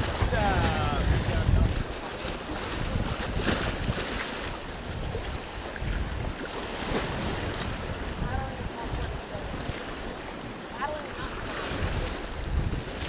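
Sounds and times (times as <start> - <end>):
whitewater rushing: 0.0 - 13.0
wind buffeting microphone: 0.0 - 13.0.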